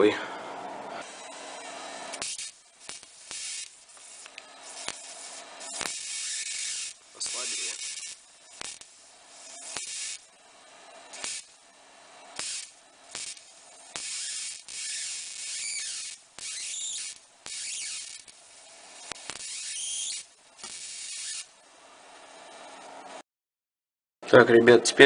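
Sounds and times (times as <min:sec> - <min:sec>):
high-voltage arc hissing: 0:01.0 - 0:21.6
sharp arc clicks: 0:01.0 - 0:21.6.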